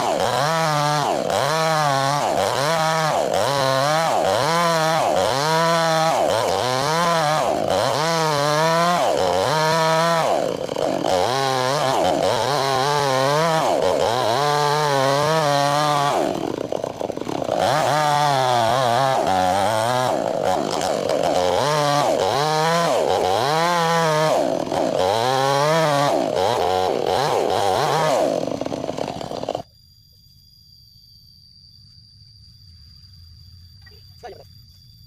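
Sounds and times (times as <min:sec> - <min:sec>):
chainsaw cutting log: 0:00.0 - 0:29.7.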